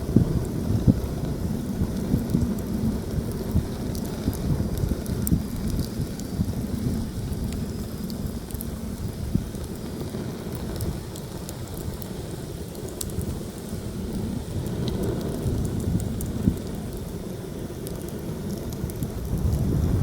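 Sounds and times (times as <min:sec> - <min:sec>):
campfire crackling: 0:00.0 - 0:20.0
wind buffeting microphone: 0:00.0 - 0:20.0.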